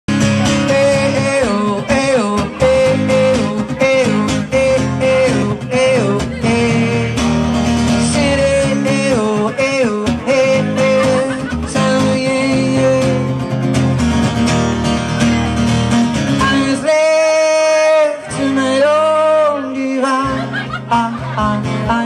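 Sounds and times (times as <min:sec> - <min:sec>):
man singing into a microphone: 0:00.1 - 0:13.6, 0:16.3 - 0:22.0
acoustic guitar strumming: 0:00.1 - 0:22.0.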